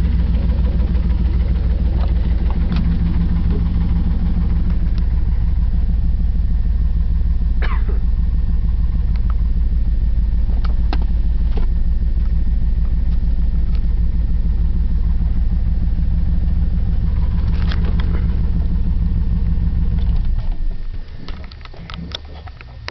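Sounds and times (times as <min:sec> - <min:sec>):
engine idling with knocking: 0:00.0 - 0:22.9.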